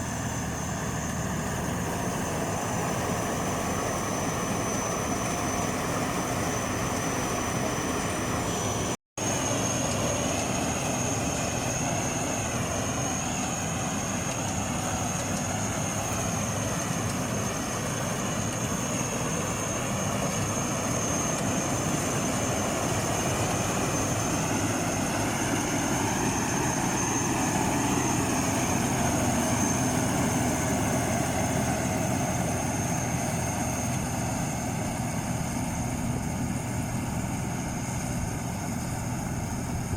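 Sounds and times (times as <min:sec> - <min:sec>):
combine harvester drone: 0:00.0 - 0:39.9
thin high whine: 0:00.0 - 0:39.9.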